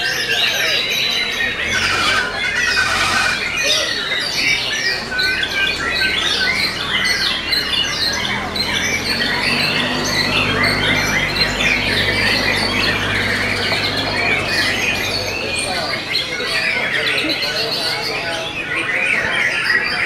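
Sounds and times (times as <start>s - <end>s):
songbirds whistling and trilling: 0.0s - 20.0s.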